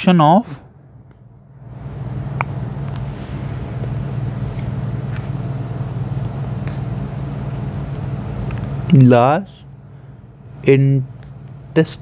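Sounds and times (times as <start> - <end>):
motor running with hum: 1.0 - 11.8.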